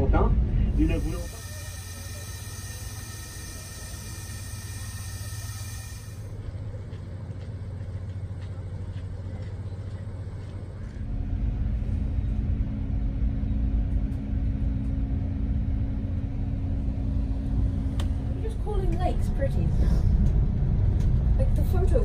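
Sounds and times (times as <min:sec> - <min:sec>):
engine idling: 0:00.0 - 0:22.0
steady droning hum: 0:00.0 - 0:22.0.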